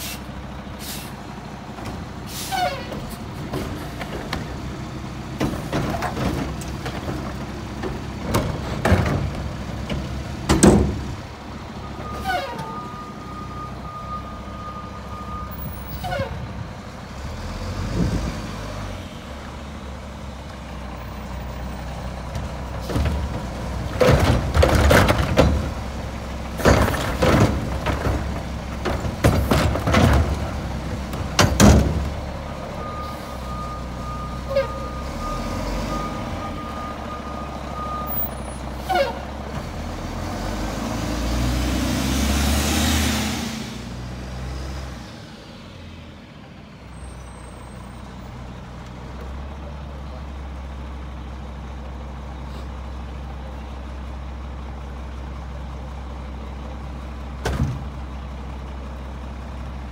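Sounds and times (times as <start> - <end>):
garbage truck diesel engine: 0.0 - 59.9.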